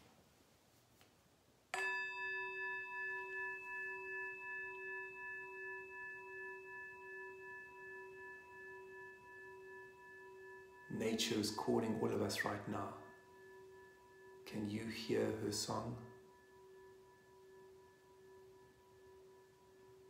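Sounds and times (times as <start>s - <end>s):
meditation bell ringing: 1.8s - 20.0s.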